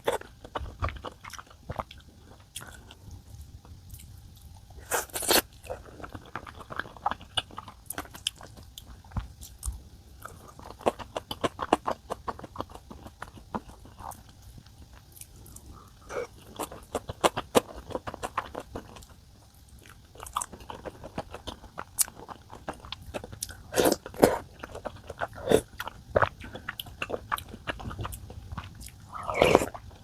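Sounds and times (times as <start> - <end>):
person chewing and biting: 3.9 - 30.0.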